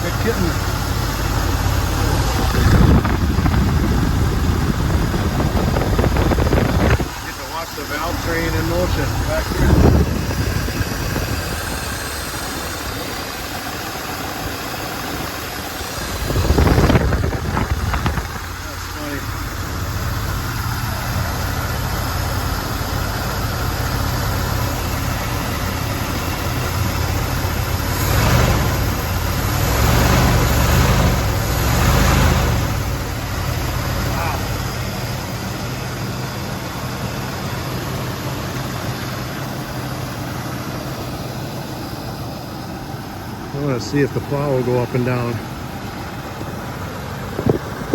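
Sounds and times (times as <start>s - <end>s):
pickup engine idling: 0.0s - 47.9s.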